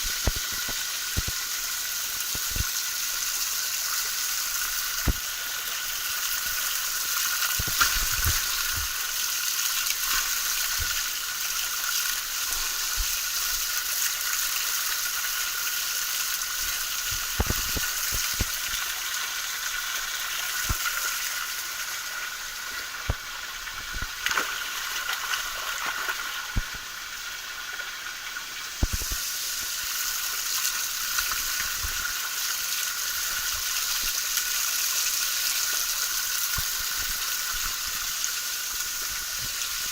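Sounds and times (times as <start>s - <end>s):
waterfall hissing: 0.0s - 39.9s.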